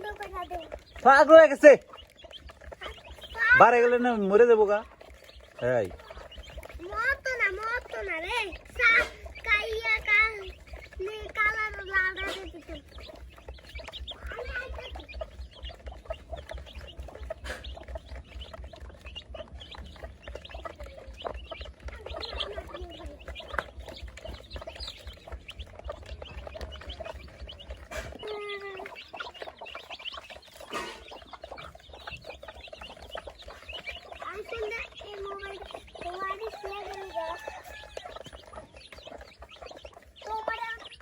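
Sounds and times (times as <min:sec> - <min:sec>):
chicks peeping and chirping: 0:00.0 - 0:41.0.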